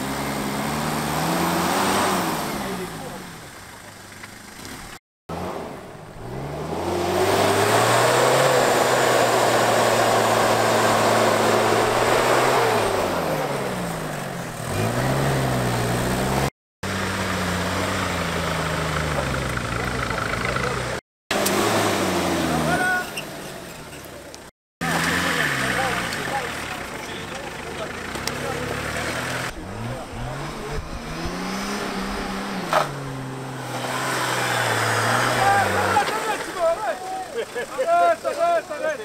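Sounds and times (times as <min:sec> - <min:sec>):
off-road engine revving hard: 0:00.0 - 0:03.6, 0:04.5 - 0:23.7, 0:24.8 - 0:38.2.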